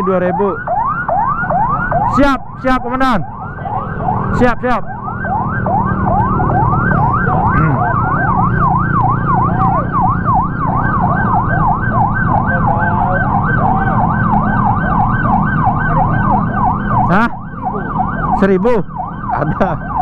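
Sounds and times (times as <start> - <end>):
police sirens yelping: 0.0 - 20.0
vehicle engines running: 0.0 - 20.0.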